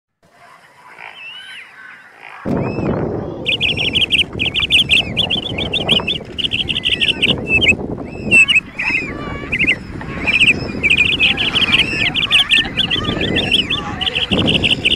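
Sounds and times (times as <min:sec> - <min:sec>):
bird chattering calls: 0:00.4 - 0:14.9
steady low rumbling noise: 0:02.5 - 0:14.9.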